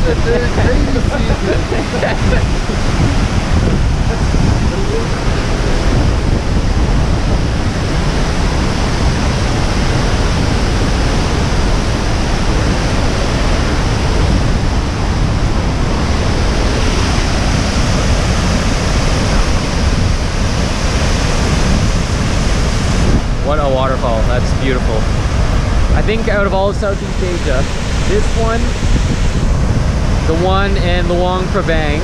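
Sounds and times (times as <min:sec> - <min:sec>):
waterfall roaring: 0:00.0 - 0:32.0
wind buffeting microphone: 0:00.0 - 0:32.0.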